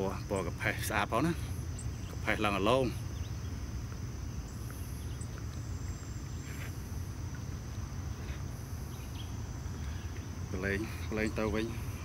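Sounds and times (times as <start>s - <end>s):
insect pulsed trill: 0.0s - 12.0s
insects buzzing: 0.0s - 12.0s
low steady rumble: 0.0s - 12.0s.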